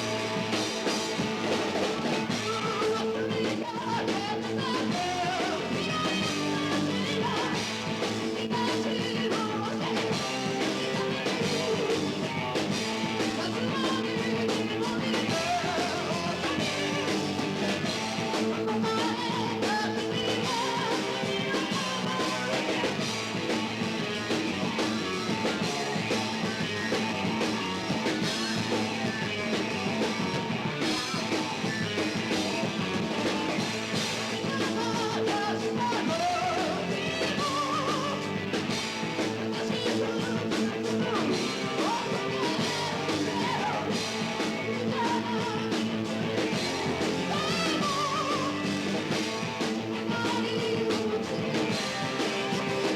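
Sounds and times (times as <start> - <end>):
bass guitar: 0.0 - 52.9
distorted electric guitars: 0.0 - 52.9
drum kit: 0.0 - 52.9.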